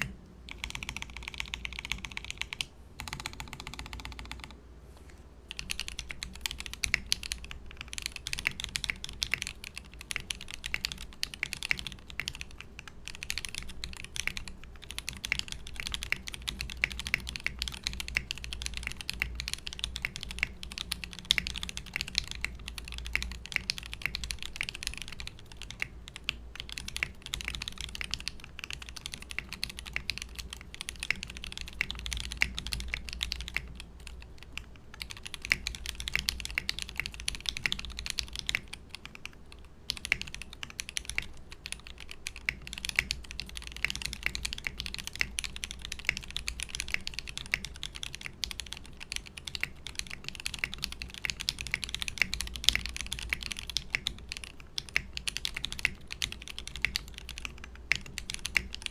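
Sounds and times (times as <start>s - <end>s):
fast typing on mechanical keyboard: 0.0s - 4.6s, 5.5s - 58.9s.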